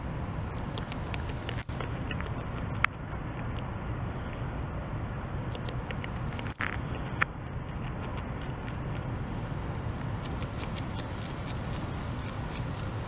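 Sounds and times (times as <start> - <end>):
low background hum: 0.0 - 13.0
beaver chewing leaves: 0.5 - 4.5, 5.2 - 13.0.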